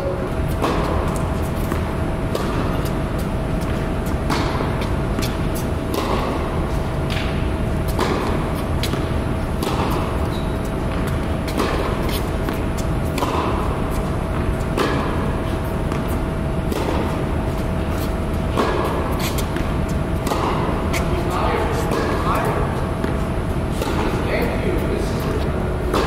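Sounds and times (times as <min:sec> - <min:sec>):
low hum with faint tone: 0:00.0 - 0:26.0
tennis ball hit by rackets: 0:00.5 - 0:24.4, 0:25.2 - 0:26.0.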